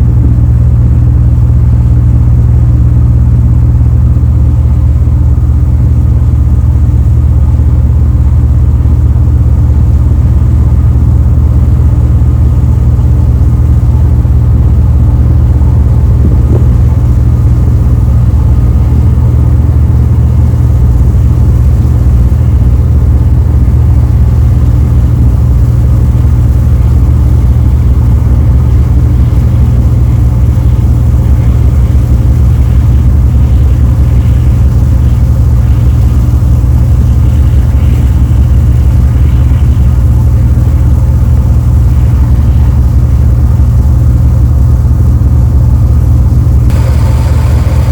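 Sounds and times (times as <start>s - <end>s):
ship diesel engines droning: 0.0s - 47.9s.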